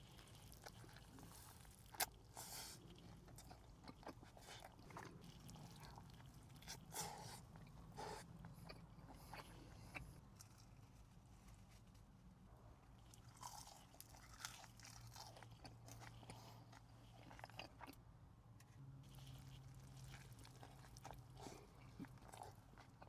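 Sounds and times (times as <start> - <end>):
crunchy chewing: 0.0 - 12.1, 12.8 - 18.0, 19.0 - 23.0.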